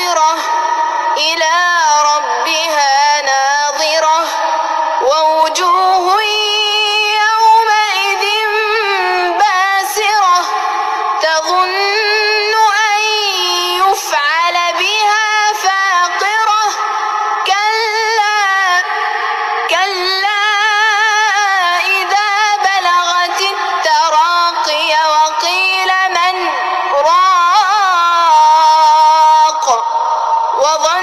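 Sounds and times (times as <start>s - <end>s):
person chanting recitation: 0.0s - 31.0s.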